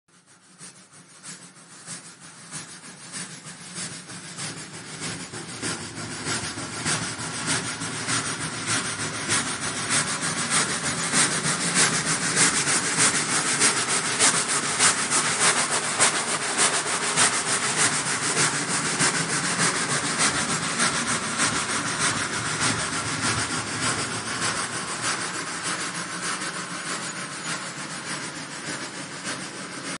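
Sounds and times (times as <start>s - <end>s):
steam locomotive chugging: 0.1s - 30.0s.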